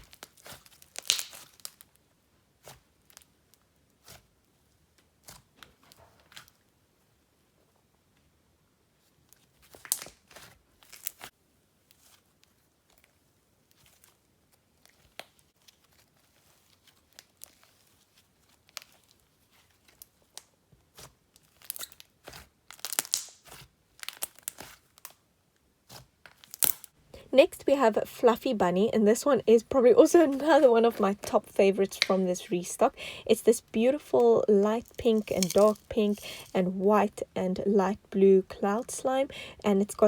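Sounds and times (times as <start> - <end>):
slime squishing with sticky crackles: 0.0 - 6.6, 9.4 - 25.2, 25.8 - 40.0.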